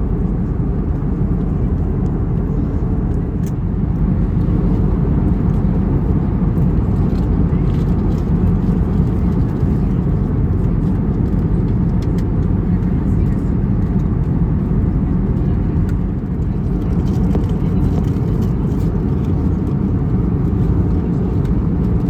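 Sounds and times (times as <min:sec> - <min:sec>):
aircraft cabin rumble: 0:00.0 - 0:22.0.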